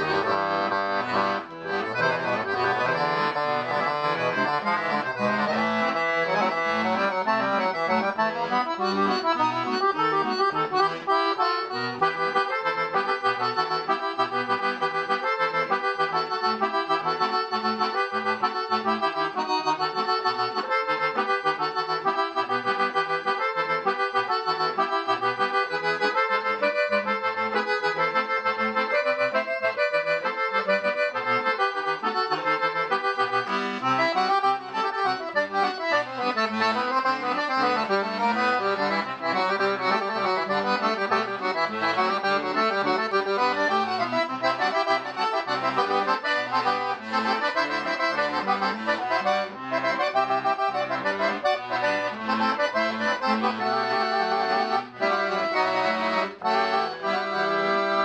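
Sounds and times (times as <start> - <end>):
solo piano accordion: 0.0 - 58.0.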